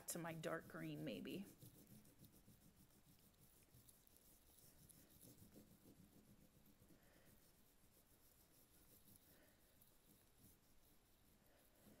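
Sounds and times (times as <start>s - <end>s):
crayon scratching on paper: 0.0s - 12.0s.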